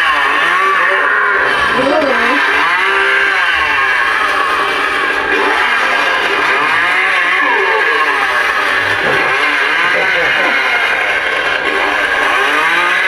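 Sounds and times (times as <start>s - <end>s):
recorded chainsaw revving: 0.0s - 13.0s.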